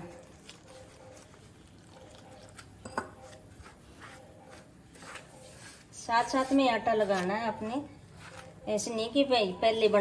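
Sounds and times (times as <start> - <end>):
hand mixing dough in steel bowl: 0.0 - 9.0.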